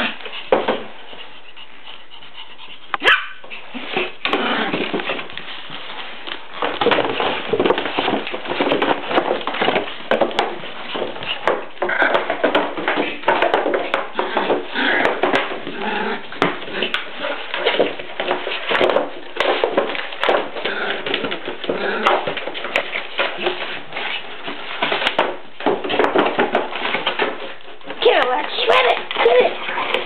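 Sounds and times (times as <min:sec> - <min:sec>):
cardboard rustling and scraping: 0:03.5 - 0:30.0.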